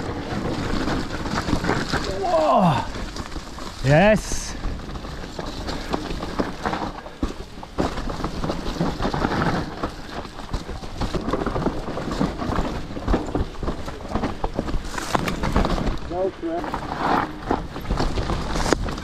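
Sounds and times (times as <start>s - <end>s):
bike knocking and rattling: 0.0s - 19.0s
bike tyres rumbling over dirt: 0.0s - 19.0s.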